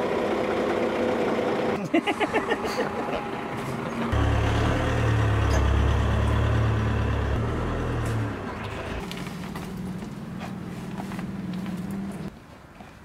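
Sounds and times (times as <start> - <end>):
vehicle engine rumble: 0.0 - 12.4.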